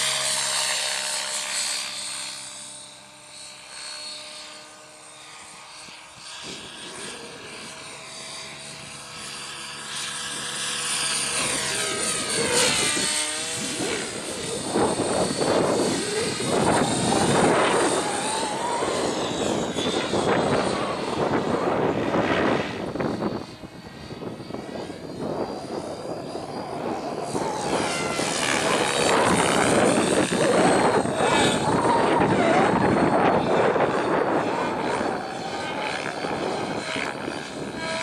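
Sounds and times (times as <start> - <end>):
rc helicopter motor and rotor whine: 0.0 - 38.0.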